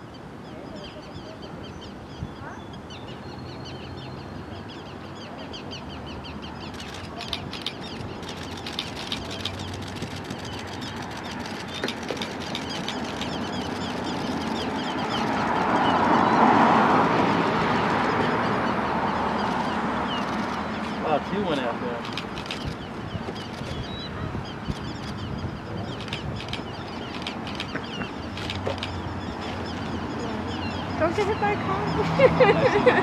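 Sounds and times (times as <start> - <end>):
birds high-pitched calls: 0.1 - 16.8, 17.5 - 32.1.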